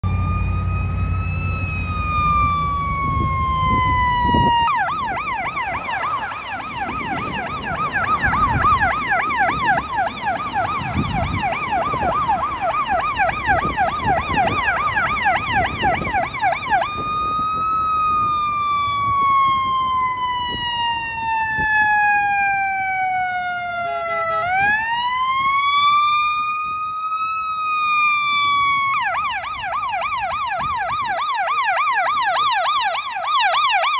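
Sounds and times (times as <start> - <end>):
fire engine siren: 0.0 - 33.9.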